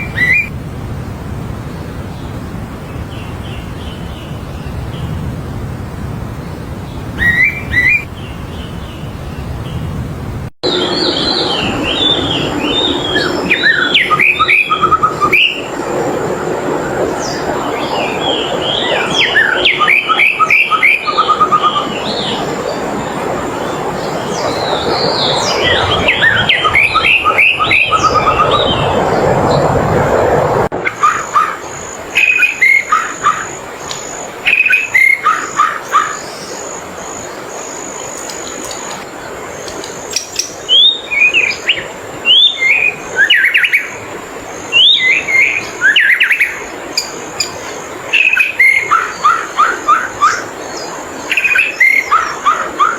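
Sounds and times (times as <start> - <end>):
songbird chirping: 0.0 - 0.5, 1.6 - 29.7, 30.8 - 52.9
steady background rush: 0.0 - 52.9.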